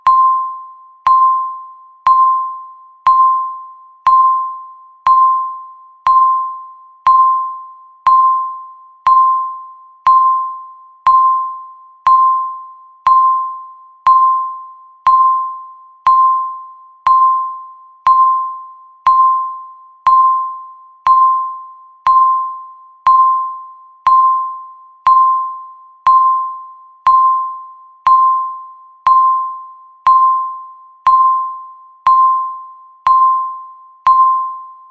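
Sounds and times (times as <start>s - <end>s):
countdown timer beeping: 0.0s - 34.9s.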